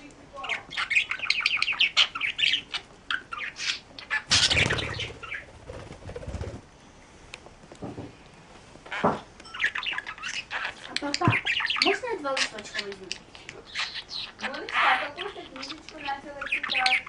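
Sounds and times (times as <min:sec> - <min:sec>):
bird chirping: 0:00.4 - 0:06.3, 0:08.9 - 0:17.0.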